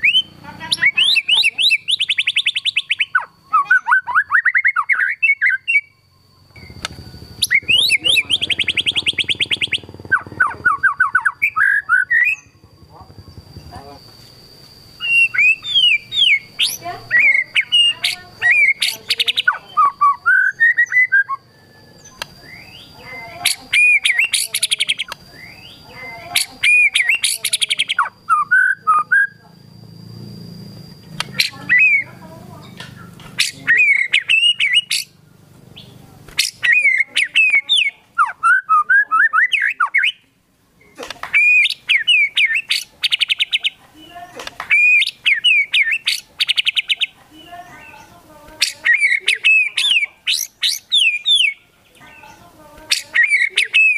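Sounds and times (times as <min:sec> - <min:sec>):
bird singing whistled notes: 0:00.0 - 0:14.2, 0:14.8 - 0:35.2, 0:35.8 - 0:40.3, 0:41.2 - 0:53.9.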